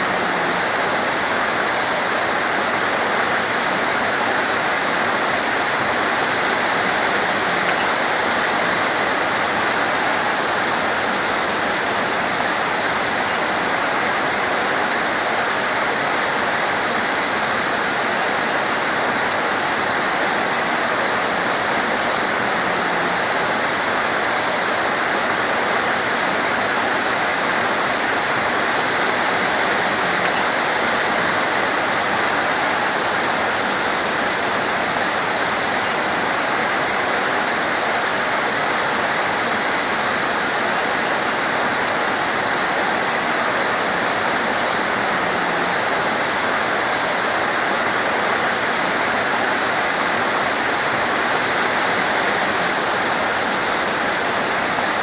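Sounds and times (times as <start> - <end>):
torrential rain: 0.0 - 55.0.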